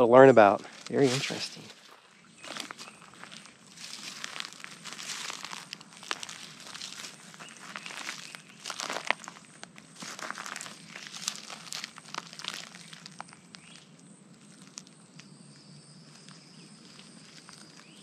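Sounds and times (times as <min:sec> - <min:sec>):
footsteps on dry leaves: 0:00.6 - 0:15.0, 0:16.1 - 0:18.0.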